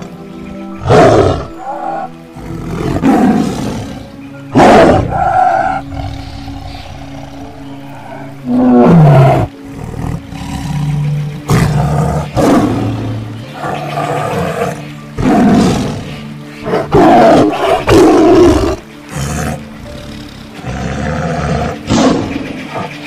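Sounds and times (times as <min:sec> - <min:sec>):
background music: 0:00.0 - 0:23.0
tiger growling and roaring: 0:00.0 - 0:23.0.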